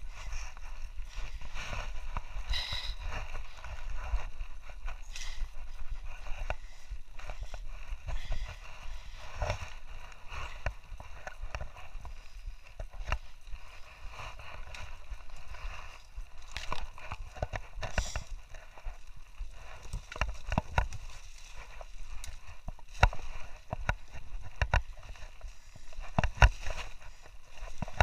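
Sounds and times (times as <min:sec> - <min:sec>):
dry brush rustling: 0:00.0 - 0:28.0.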